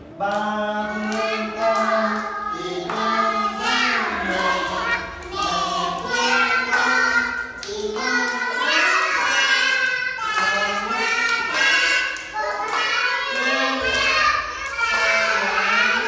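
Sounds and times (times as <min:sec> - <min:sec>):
children and man singing: 0:00.0 - 0:16.0
hand clapping: 0:00.3 - 0:04.6, 0:05.2 - 0:15.7.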